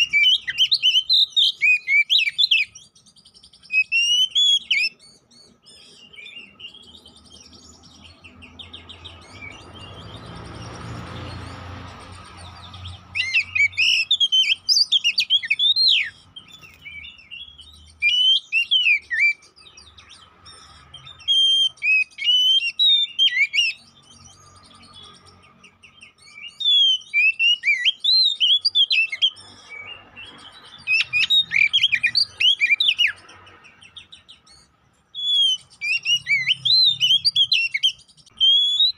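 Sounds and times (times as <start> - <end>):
bird singing whistled phrases: 0.0 - 10.6, 12.8 - 24.9, 25.8 - 33.2, 34.0 - 38.9.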